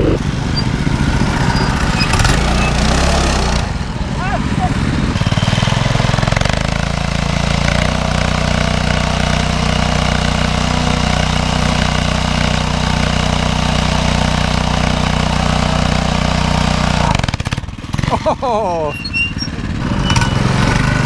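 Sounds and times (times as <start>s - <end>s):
mini bike engine at steady throttle: 0.0s - 21.0s.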